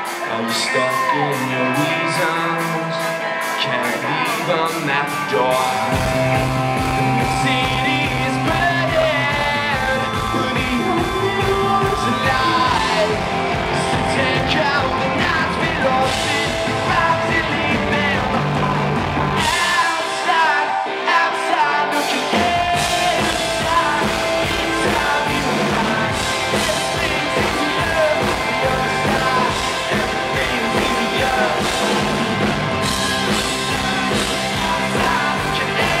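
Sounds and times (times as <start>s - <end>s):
rock music with singing: 0.0s - 36.0s.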